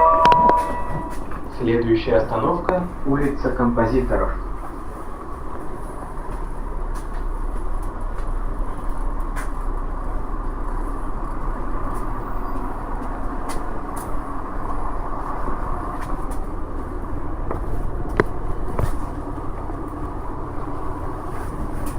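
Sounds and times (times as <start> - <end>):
bus engine running: 0.0 - 21.9
road rumble: 0.0 - 21.9.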